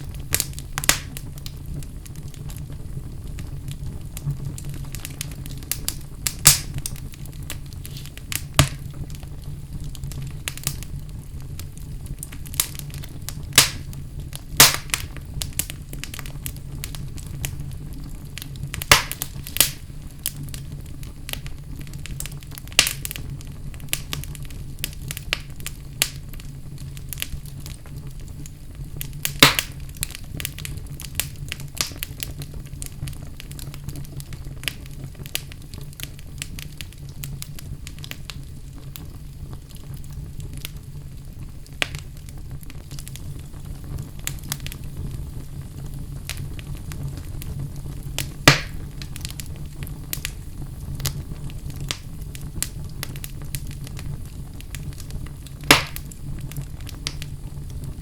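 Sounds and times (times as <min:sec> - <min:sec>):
fire rumbling and crackling: 0:00.0 - 0:58.0
loud fire pops: 0:00.0 - 0:58.0.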